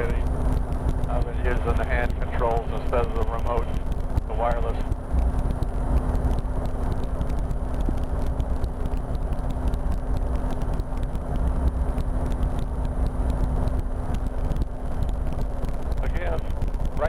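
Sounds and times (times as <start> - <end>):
airflow noise: 0.0 - 17.0
helicopter engine and rotor drone: 0.0 - 17.0.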